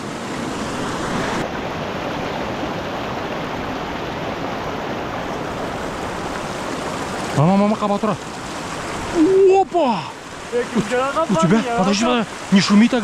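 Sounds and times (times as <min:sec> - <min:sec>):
mountain stream rushing water: 0:00.0 - 0:13.0.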